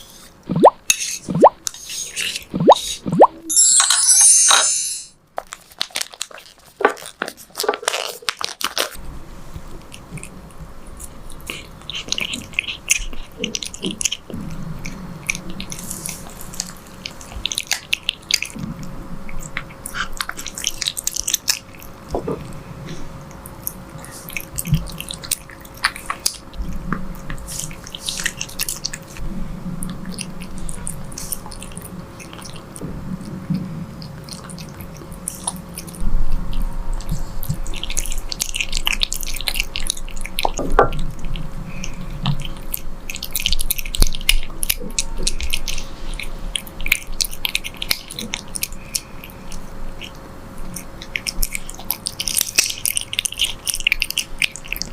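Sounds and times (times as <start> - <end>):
cat chewing and smacking: 5.6 - 54.9.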